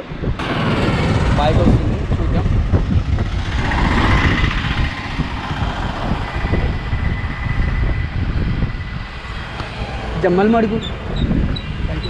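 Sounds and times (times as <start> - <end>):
heavy low rumble: 0.0 - 12.0
road traffic passing: 0.0 - 12.0
motorcycle passing: 0.3 - 12.0.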